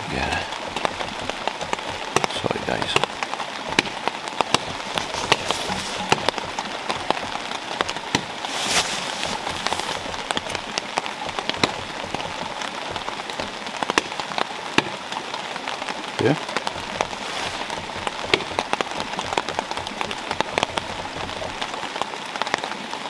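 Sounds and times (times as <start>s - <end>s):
rain on a tarp: 0.0s - 23.0s.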